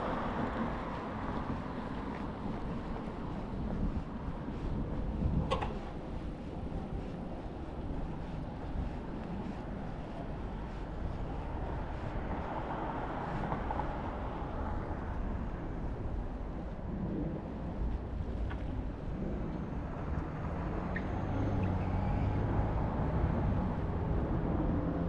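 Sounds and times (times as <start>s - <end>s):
distant traffic rumble: 0.0s - 25.0s.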